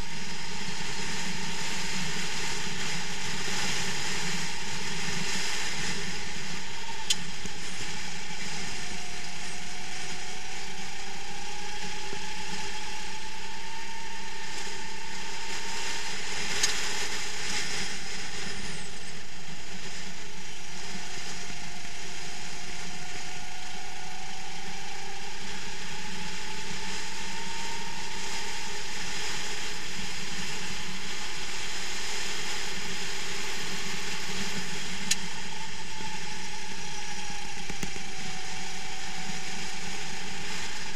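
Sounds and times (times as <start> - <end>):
kart engine running: 0.0 - 40.9.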